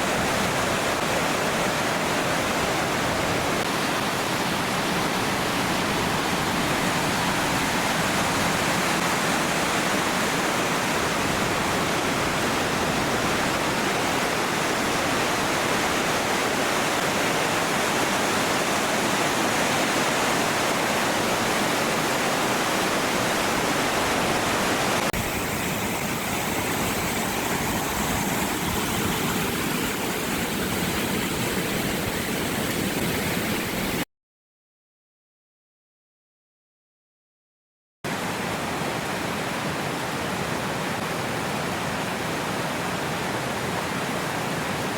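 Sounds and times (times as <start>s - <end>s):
waterfall rushing: 0.0s - 34.0s, 38.1s - 44.9s.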